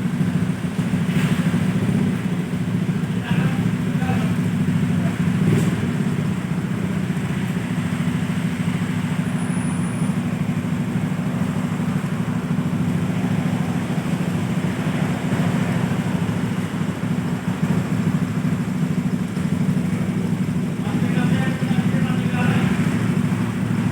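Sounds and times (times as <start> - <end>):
scooter engine idling: 0.0 - 23.9.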